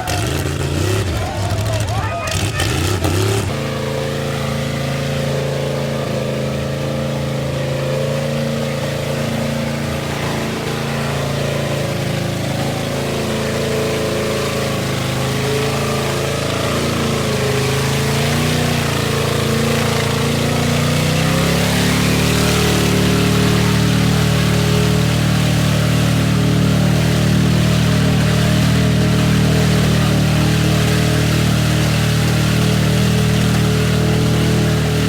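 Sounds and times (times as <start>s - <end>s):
truck engine at high revs: 0.0s - 35.0s.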